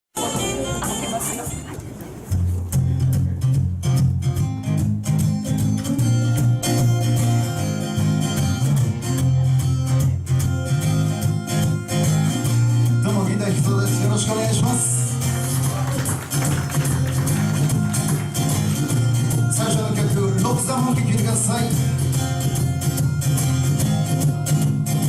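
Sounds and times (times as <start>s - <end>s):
electric guitar: 0.2s - 25.0s
low bass notes: 2.3s - 15.7s, 17.1s - 25.0s.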